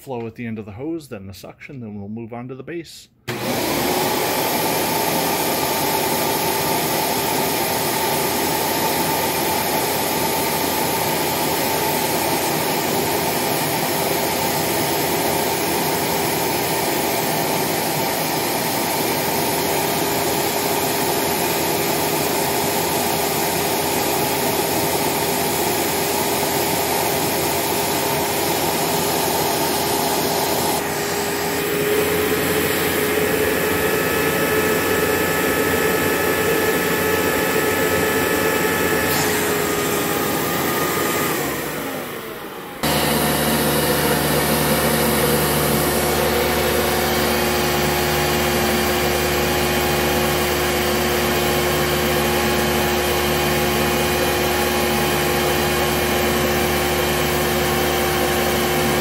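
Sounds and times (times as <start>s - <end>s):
vacuum cleaner running: 3.3s - 59.0s.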